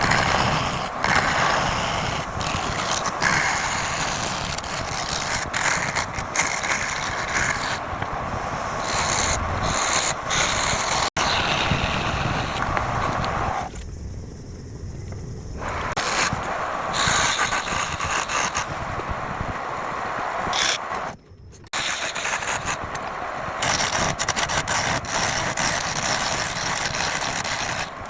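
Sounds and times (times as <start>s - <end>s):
lathe tool scraping spinning wood: 0.0s - 13.7s, 15.6s - 28.0s.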